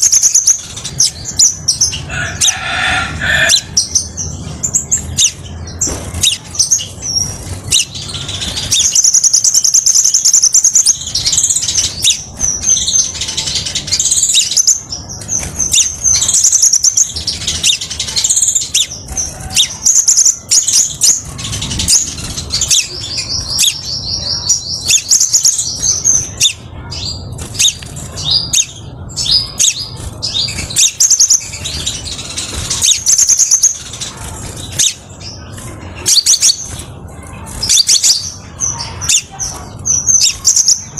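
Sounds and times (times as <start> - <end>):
bird trilling and chipping: 0.0 - 40.9.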